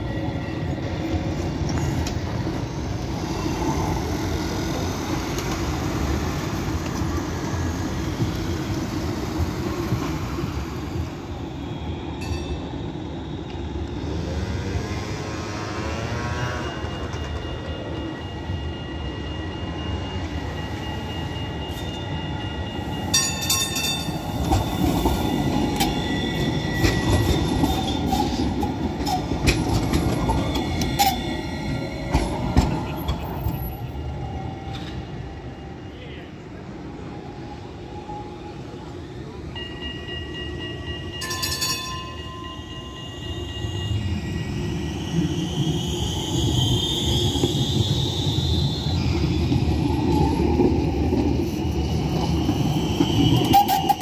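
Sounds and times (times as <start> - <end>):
tram wheel squeal: 0.0 - 54.0
trams rumbling on street track: 0.0 - 54.0.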